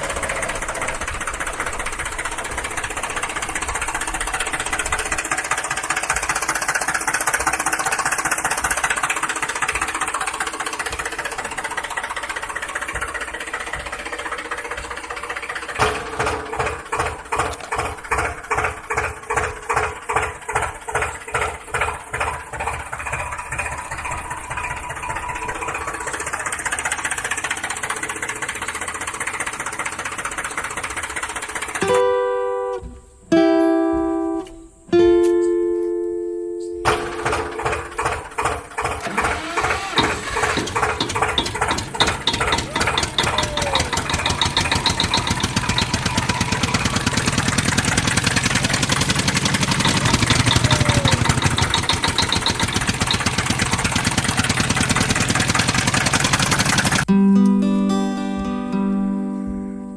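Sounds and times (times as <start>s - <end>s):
engine running with pulsing: 0.0s - 57.1s.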